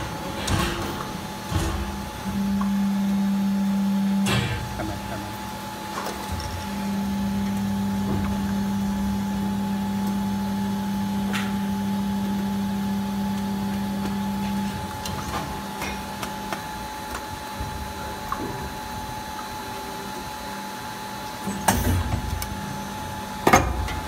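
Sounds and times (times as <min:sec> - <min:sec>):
injection moulding machine humming: 0:00.0 - 0:24.0.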